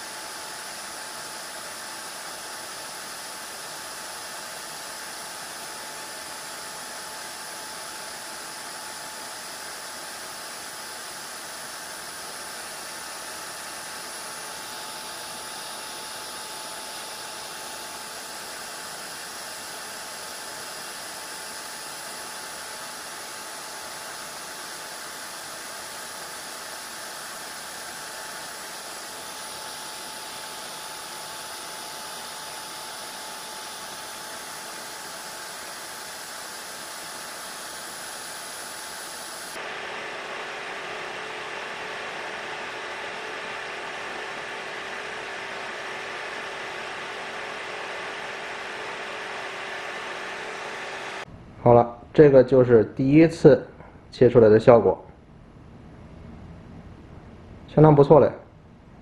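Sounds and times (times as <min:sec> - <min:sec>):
router cutting wood: 0:00.0 - 0:51.3
dust extraction vacuum: 0:00.0 - 0:51.8.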